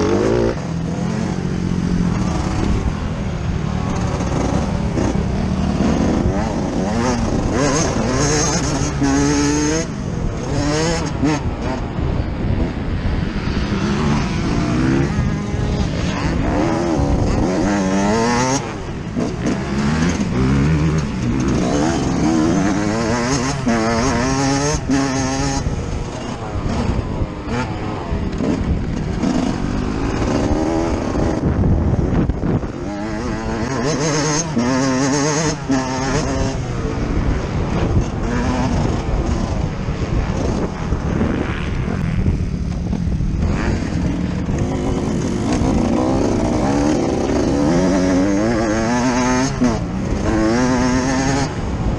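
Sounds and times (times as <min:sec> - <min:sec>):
two-stroke motorcycle engine revving: 0:00.0 - 0:51.9.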